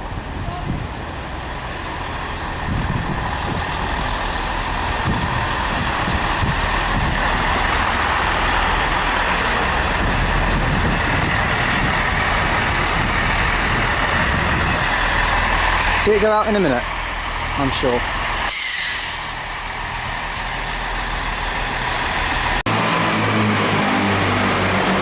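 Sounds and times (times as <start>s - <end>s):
diesel train rumble: 0.0s - 25.0s.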